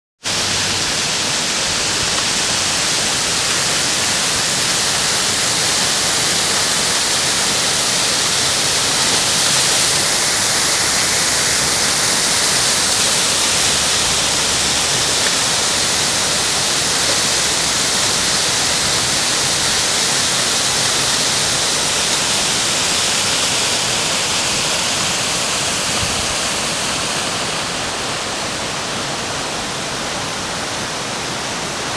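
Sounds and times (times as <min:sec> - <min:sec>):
waterfall rushing: 0:00.2 - 0:31.9.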